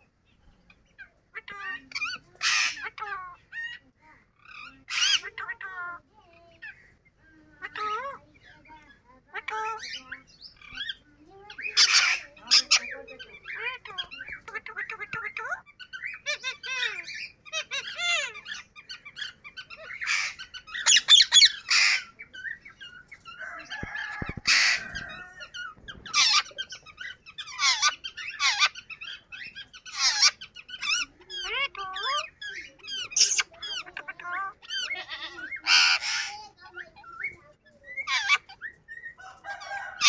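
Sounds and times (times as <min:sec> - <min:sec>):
parakeet screeching and chirping: 0:01.4 - 0:06.8, 0:07.6 - 0:40.0.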